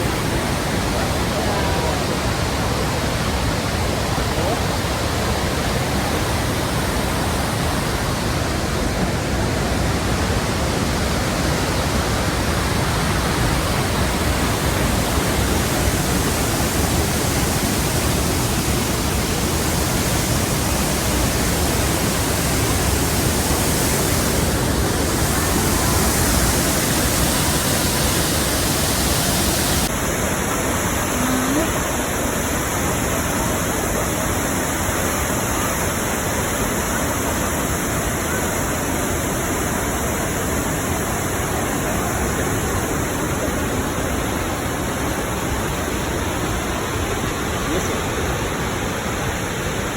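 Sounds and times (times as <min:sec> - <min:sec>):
waterfall roaring: 0:00.0 - 0:49.9.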